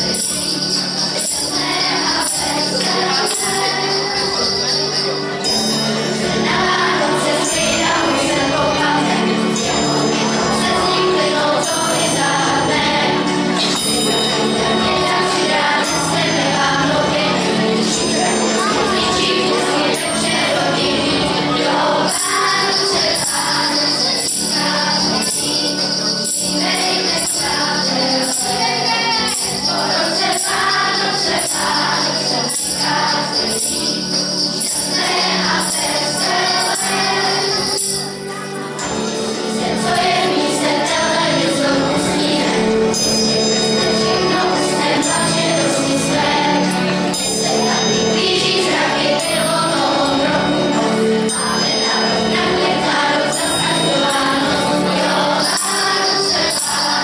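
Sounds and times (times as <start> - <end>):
bright tinkling metallic shimmer: 0.0 - 57.0
children's choir singing: 0.0 - 57.0.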